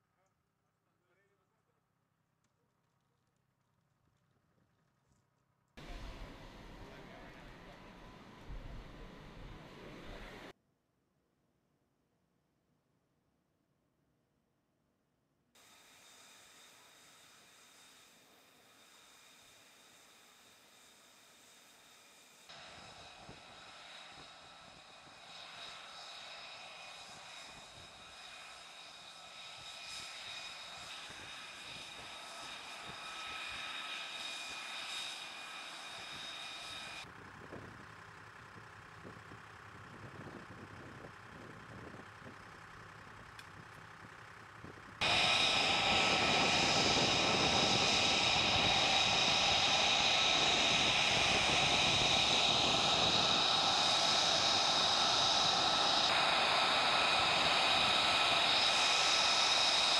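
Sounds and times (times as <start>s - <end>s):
jet engine whine: 5.8s - 10.6s, 15.6s - 59.9s.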